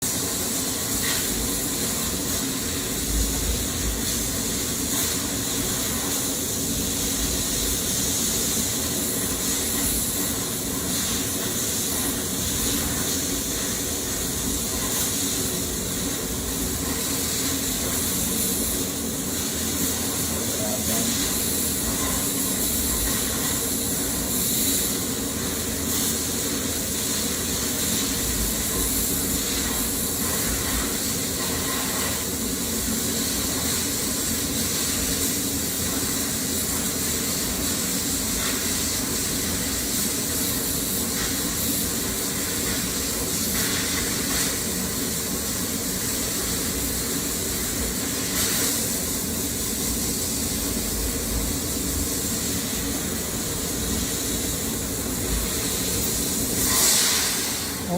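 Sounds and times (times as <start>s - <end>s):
hiss of assist gas: 0.0s - 57.9s.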